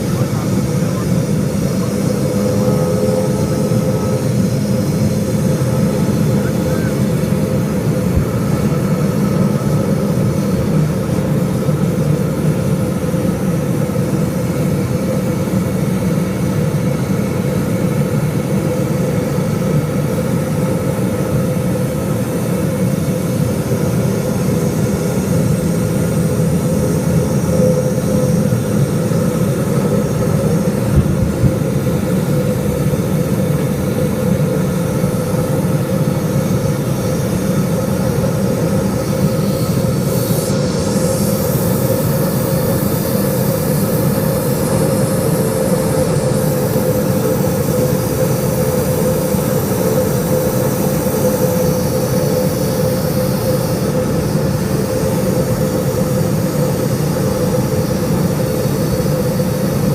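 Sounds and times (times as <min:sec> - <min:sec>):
plane engines droning: 0:00.0 - 0:59.9.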